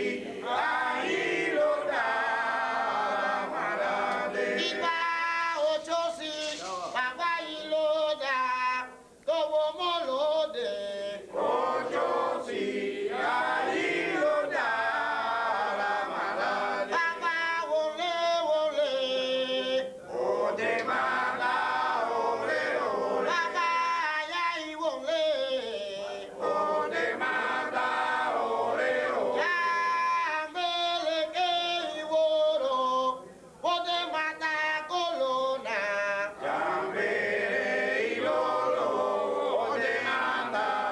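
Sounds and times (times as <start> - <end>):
chorus of voices chanting: 0.0 - 8.5, 10.7 - 32.9, 35.1 - 40.9.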